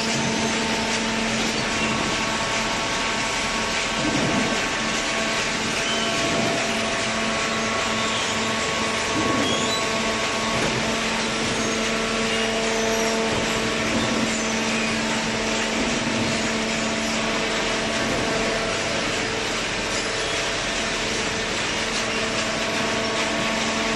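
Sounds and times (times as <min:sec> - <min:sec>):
baler machinery running: 0:00.0 - 0:23.9.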